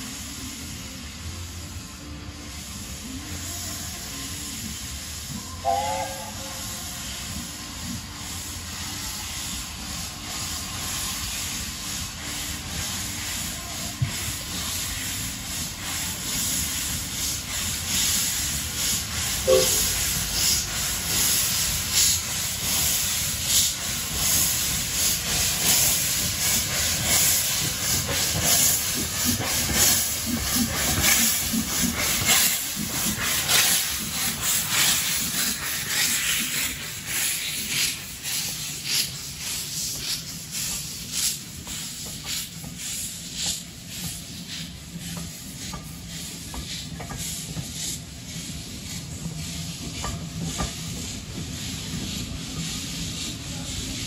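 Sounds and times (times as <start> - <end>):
steam hissing: 0.0 - 54.0
steam locomotive exhaust beats: 0.0 - 54.0.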